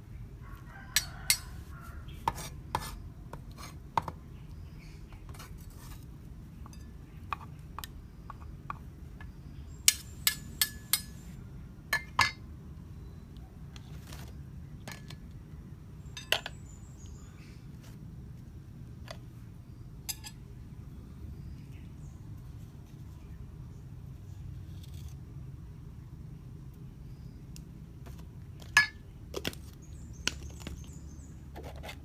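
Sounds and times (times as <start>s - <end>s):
low background noise: 0.0s - 32.0s.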